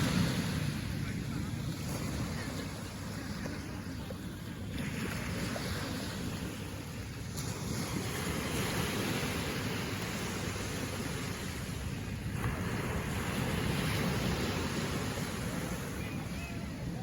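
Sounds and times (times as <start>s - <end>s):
waves: 0.0s - 17.0s.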